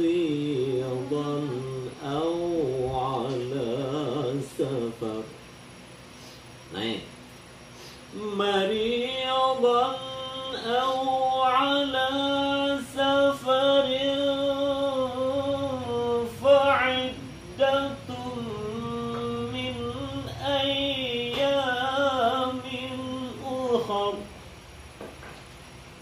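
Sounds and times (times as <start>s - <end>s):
person chanting melodically: 0.0s - 5.4s, 8.1s - 24.3s.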